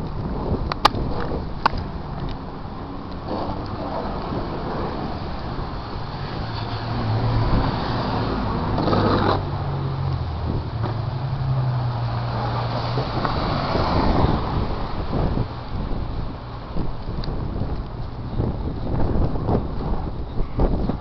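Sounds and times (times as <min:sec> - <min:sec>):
street noise: 0:00.0 - 0:21.0
vehicle engine humming: 0:00.0 - 0:21.0
wind rushing: 0:00.0 - 0:21.0.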